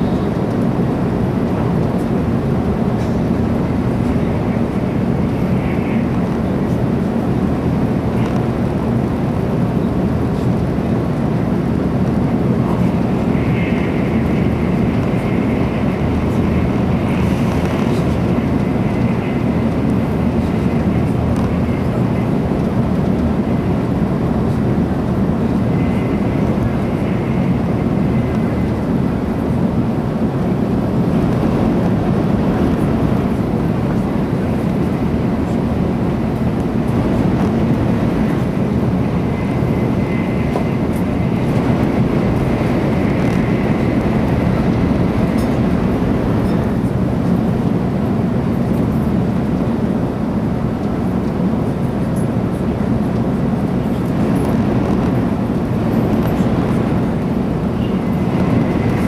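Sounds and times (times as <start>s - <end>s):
faint steady whine: 0.0s - 59.0s
train cabin rumble: 0.0s - 59.0s.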